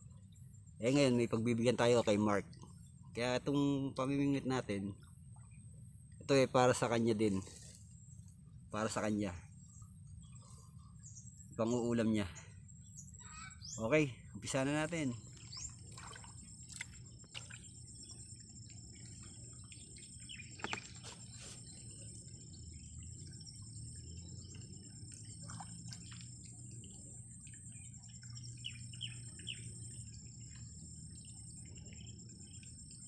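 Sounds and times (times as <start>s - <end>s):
birds chirping: 0.0s - 33.0s
high-pitched insect drone: 6.3s - 33.0s.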